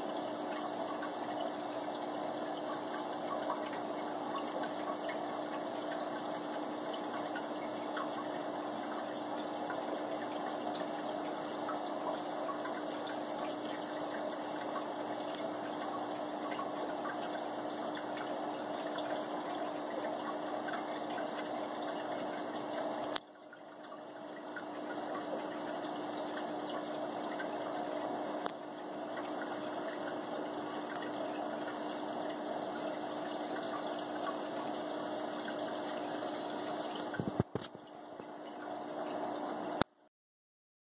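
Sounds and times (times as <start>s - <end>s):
aquarium water bubbling: 0.0s - 40.1s.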